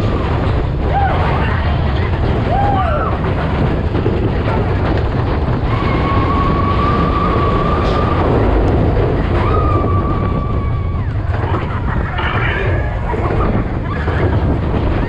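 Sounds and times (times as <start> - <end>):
roller coaster rumbling on track: 0.0 - 15.0
wind on microphone: 0.0 - 15.0.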